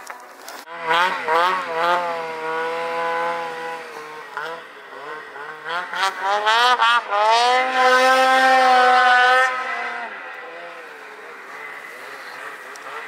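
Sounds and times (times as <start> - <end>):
snowmobile engine revving: 0.6 - 13.0.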